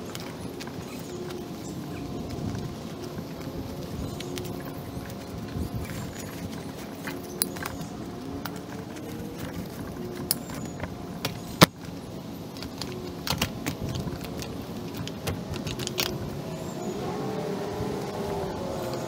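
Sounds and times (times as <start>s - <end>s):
gear pouches clicking and rustling: 0.0s - 17.4s.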